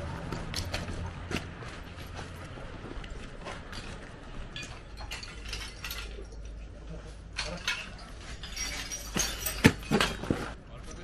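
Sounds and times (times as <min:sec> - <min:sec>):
rubble clinking and crunching: 0:00.3 - 0:11.0.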